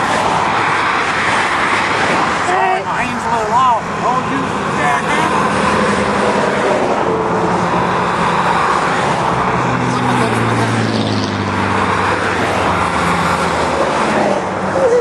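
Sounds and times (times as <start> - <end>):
passing car traffic: 0.0 - 15.0
vehicle engine hum: 0.0 - 15.0.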